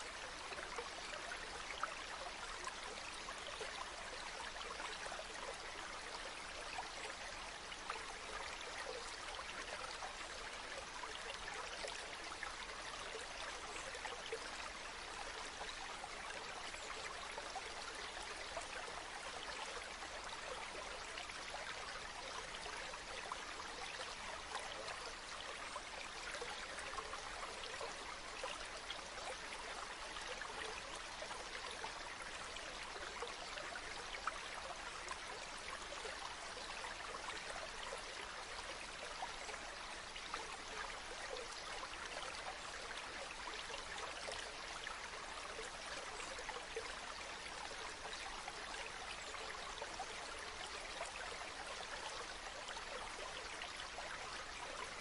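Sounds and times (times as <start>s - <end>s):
river water babbling over stones: 0.0s - 55.0s.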